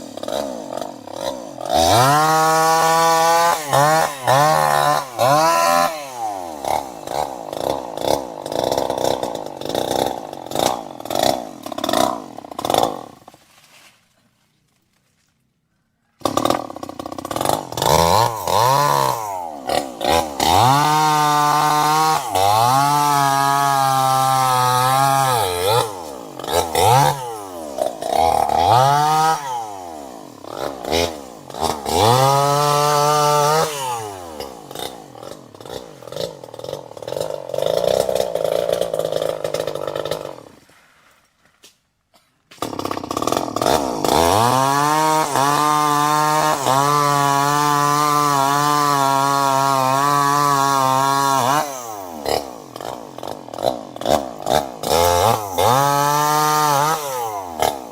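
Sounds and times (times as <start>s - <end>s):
chainsaw engine revving: 0.0s - 13.4s, 16.2s - 41.0s, 42.5s - 57.9s.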